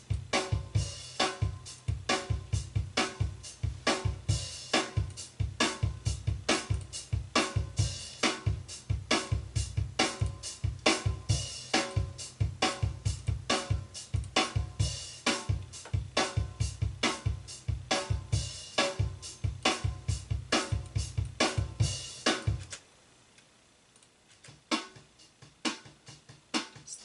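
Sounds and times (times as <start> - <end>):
drum kit playing a beat: 0.0 - 22.8, 24.4 - 27.0.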